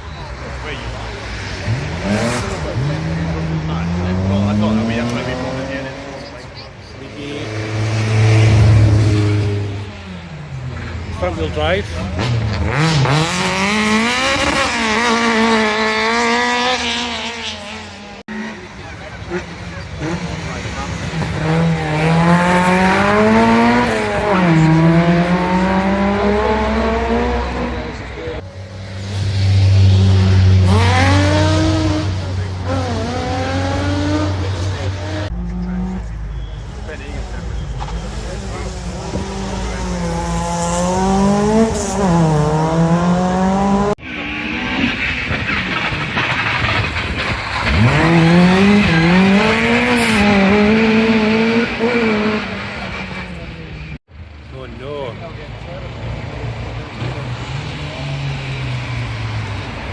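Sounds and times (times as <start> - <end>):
rally car engine accelerating: 0.9 - 54.0.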